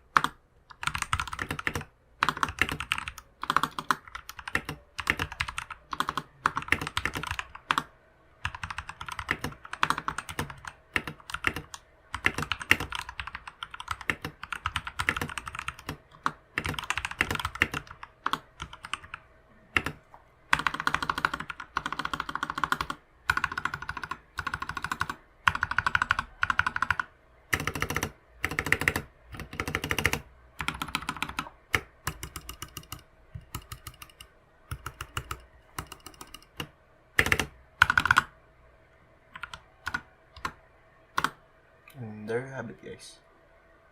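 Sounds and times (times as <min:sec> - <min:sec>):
mechanical keyboard typing: 0:00.0 - 0:38.3, 0:39.3 - 0:40.6, 0:41.2 - 0:41.4.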